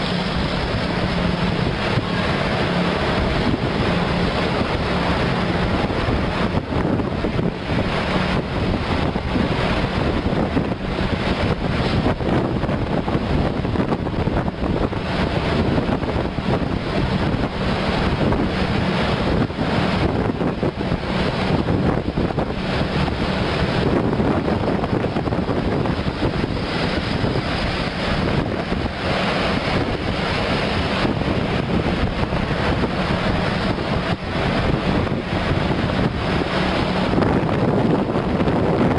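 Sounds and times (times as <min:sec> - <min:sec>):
low hum: 0:00.0 - 0:38.9
road and traffic noise: 0:00.0 - 0:38.9
wind buffeting microphone: 0:00.0 - 0:38.9.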